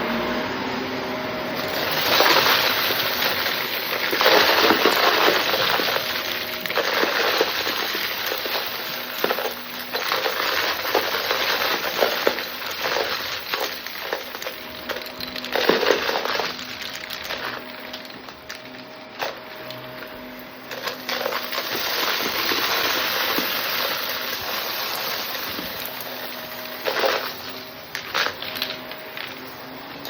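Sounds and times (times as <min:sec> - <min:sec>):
vacuum cleaner motor hum: 0:00.0 - 0:30.0
debris crackling and rattling: 0:01.5 - 0:30.0.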